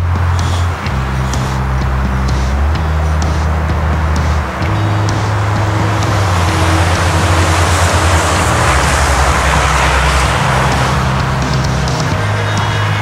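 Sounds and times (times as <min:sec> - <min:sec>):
coach passing on highway: 0:00.0 - 0:13.0
steady low drone: 0:00.0 - 0:13.0.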